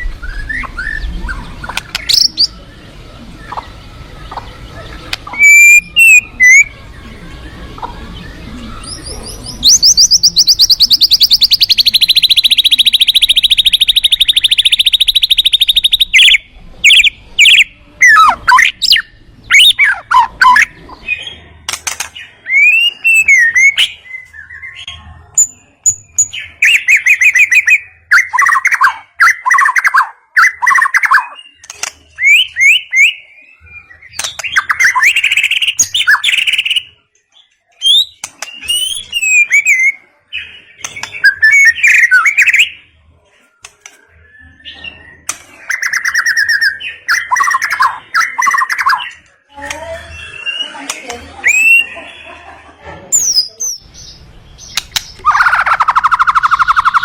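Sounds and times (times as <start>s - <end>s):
bird singing whistles and trills: 0.0s - 2.7s, 3.4s - 21.4s, 22.2s - 37.0s, 37.7s - 42.9s, 43.8s - 49.2s, 50.0s - 52.1s, 53.2s - 57.0s.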